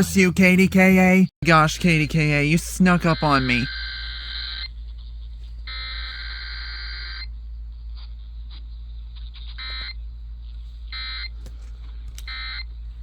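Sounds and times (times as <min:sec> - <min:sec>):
low radio hum: 0:00.0 - 0:13.0.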